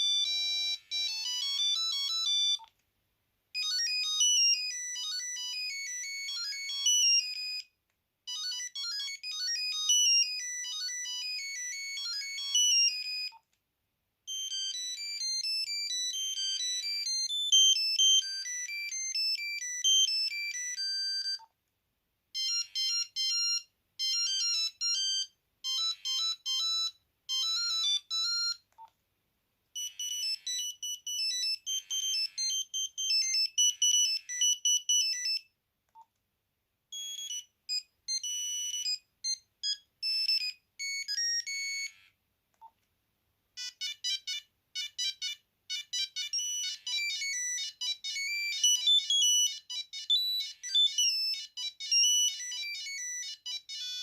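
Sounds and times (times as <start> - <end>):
monophonic phone ringtone melodies: 0.0 - 2.7, 3.6 - 13.4, 14.3 - 21.5, 22.3 - 28.7, 29.8 - 35.6, 36.9 - 42.1, 43.6 - 54.0.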